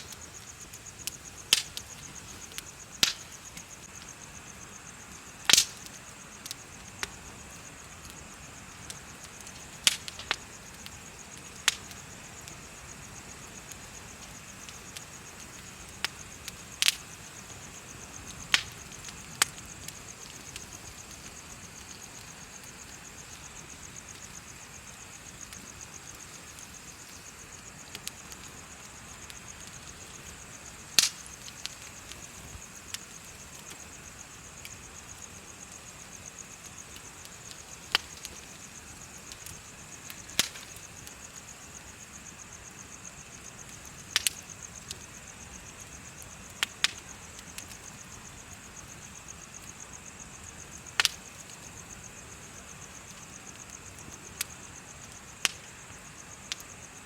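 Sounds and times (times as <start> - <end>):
bonfire crackling and popping: 0.0 - 57.0
insects chirring: 0.0 - 57.0.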